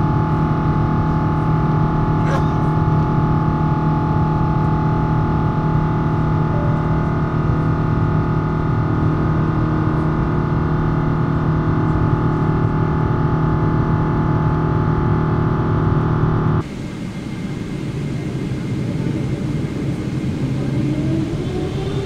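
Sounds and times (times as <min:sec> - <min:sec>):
jet engine drone in cabin: 0:00.0 - 0:22.0.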